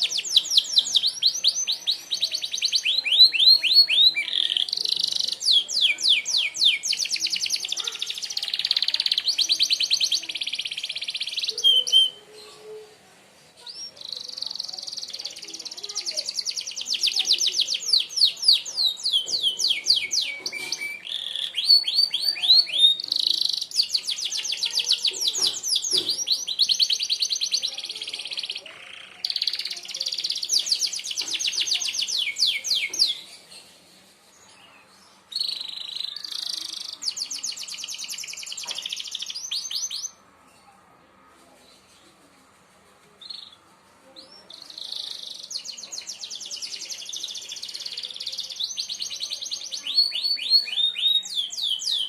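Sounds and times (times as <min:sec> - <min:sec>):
canary singing: 0:00.0 - 0:13.0, 0:13.6 - 0:33.7, 0:34.3 - 0:40.2, 0:44.2 - 0:52.0.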